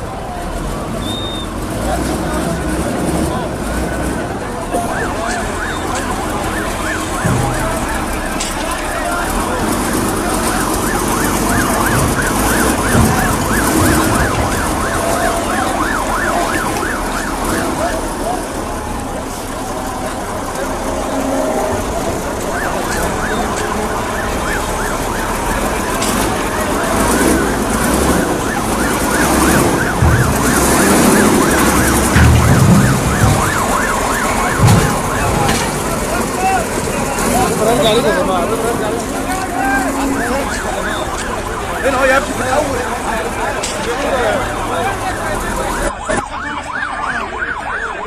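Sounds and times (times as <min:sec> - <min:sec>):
ambulance siren yelping: 0:00.0 - 0:48.0
noisy background: 0:00.0 - 0:48.0.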